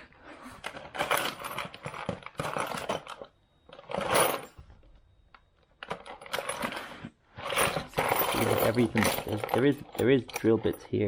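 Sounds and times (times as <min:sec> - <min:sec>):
tools clattering in a toolbox: 0:00.6 - 0:04.6, 0:05.8 - 0:11.0.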